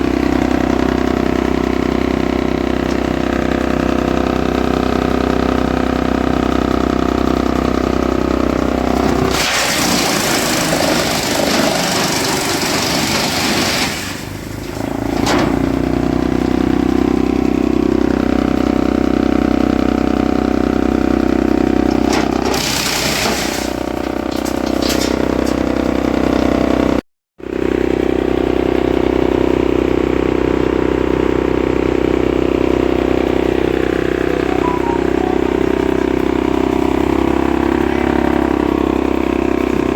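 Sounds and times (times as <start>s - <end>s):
wood chipper grinding wood: 0.0s - 39.9s
wood chipper running: 0.0s - 39.9s.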